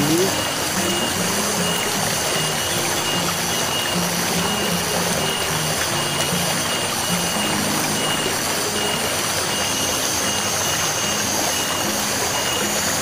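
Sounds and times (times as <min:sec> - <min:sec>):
background music: 0:00.0 - 0:13.0
flowing stream: 0:00.0 - 0:13.0.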